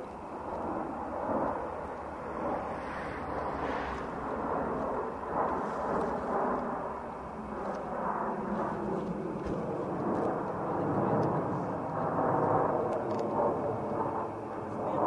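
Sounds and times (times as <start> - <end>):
jet engines flying overhead: 0.0 - 15.0.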